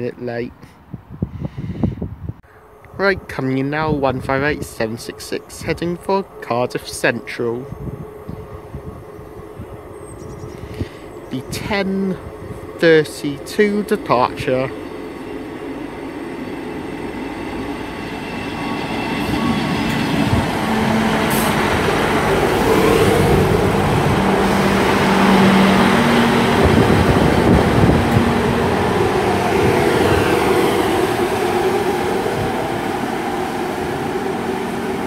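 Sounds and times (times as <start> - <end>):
diesel train engines working: 2.4 - 35.0.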